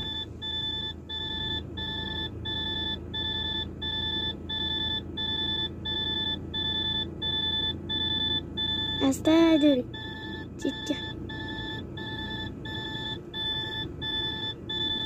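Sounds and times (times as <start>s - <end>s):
diesel engine humming: 0.0s - 15.0s
electronic warning beeps: 0.0s - 15.0s.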